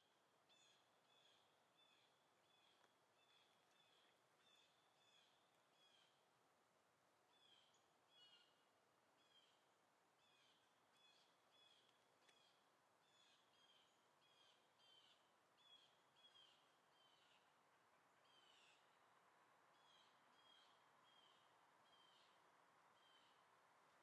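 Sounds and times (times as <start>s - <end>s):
faint bird chirps: 0.0s - 6.2s, 7.3s - 17.6s, 18.2s - 19.0s, 19.7s - 23.5s
faint outdoor hiss: 0.0s - 24.0s.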